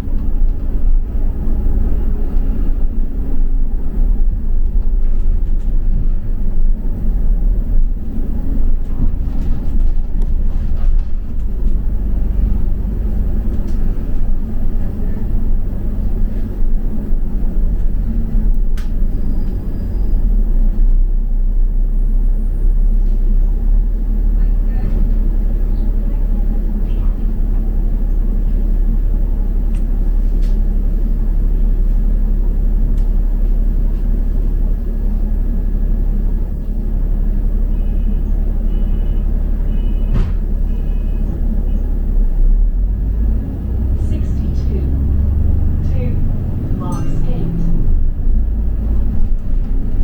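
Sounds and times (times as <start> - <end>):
bus engine rumble: 0.0 - 50.0
road noise: 0.0 - 50.0.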